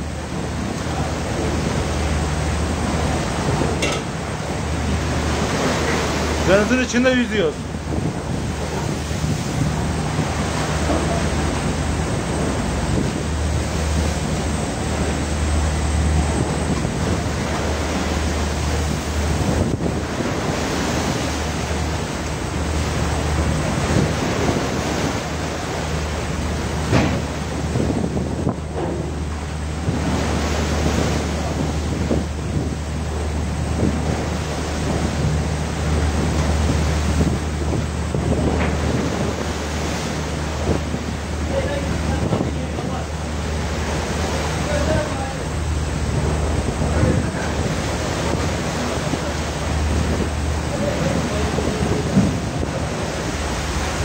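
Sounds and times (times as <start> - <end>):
boat engine hum: 0.0 - 54.0
seawater sloshing across deck: 0.0 - 54.0
wind buffeting microphone: 0.0 - 54.0.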